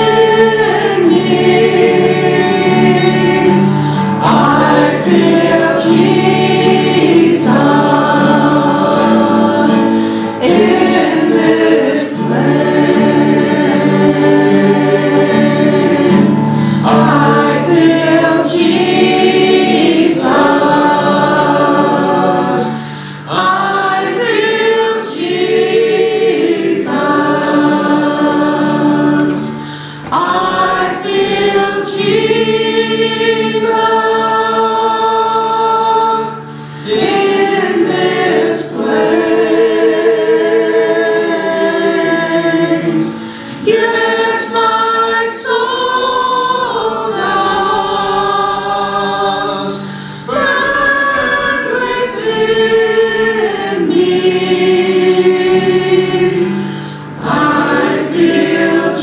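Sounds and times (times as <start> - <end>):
group singing slow worship song: 0.0 - 59.0.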